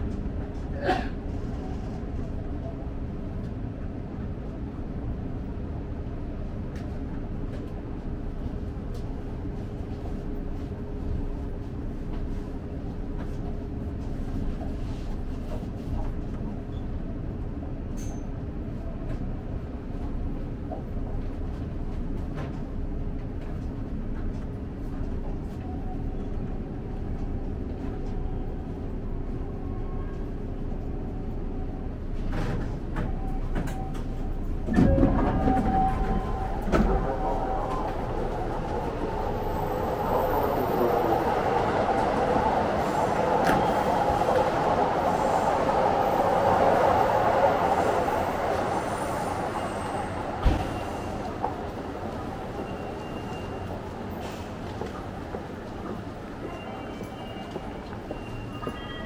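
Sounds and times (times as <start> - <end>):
electric train rumble and hum: 0.0 - 59.0.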